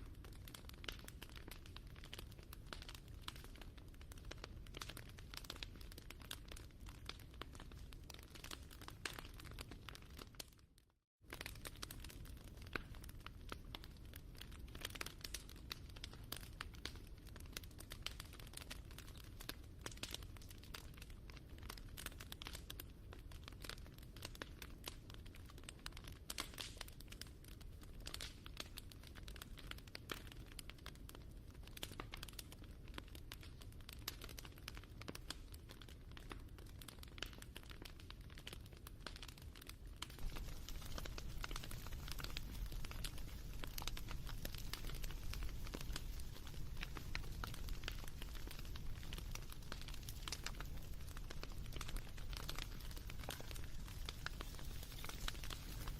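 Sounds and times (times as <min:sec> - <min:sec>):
wood fire crackling: 0:00.0 - 0:10.6, 0:11.3 - 0:55.9.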